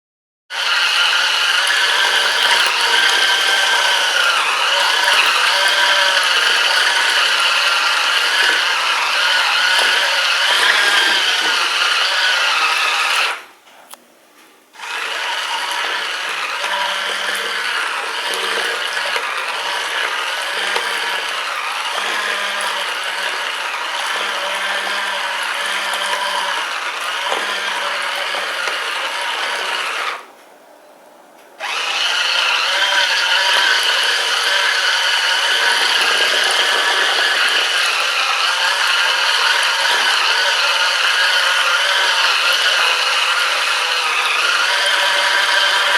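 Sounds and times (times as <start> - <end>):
washing machine motor whining: 0.5 - 13.5, 14.8 - 30.4, 31.6 - 45.9.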